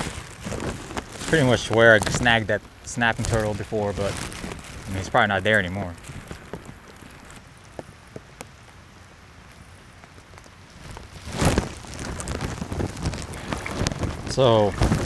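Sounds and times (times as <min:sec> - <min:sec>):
rain falling: 0:00.0 - 0:15.0
sharp ticks of raindrops: 0:00.0 - 0:15.0.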